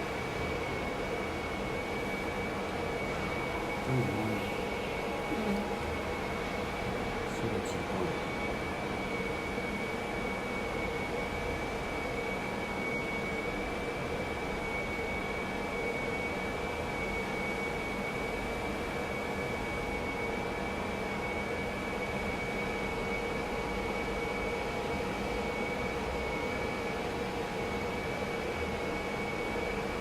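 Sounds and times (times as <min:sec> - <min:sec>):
hot-air blowers whirring: 0:00.0 - 0:30.0.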